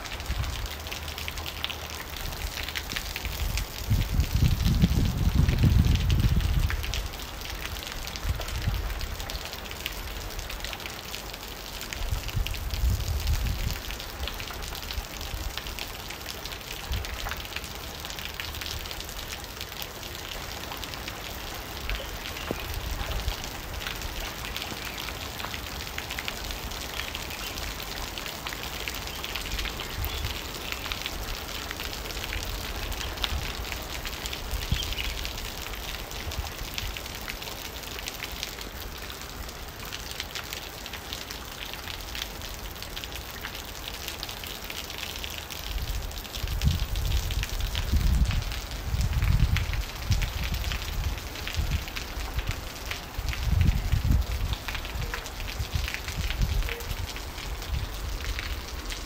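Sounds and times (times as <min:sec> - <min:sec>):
heavy rain splashing: 0:00.0 - 0:59.0.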